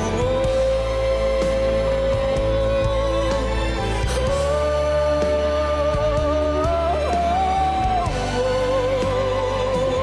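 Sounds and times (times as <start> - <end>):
steady low bass: 0.0 - 10.0.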